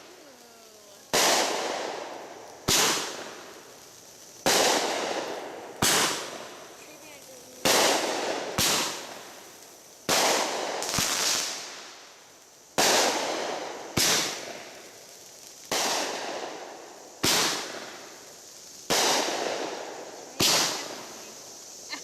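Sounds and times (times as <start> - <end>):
fireworks bangs: 0.0 - 12.2, 12.8 - 22.0
fireworks hissing: 0.0 - 22.0.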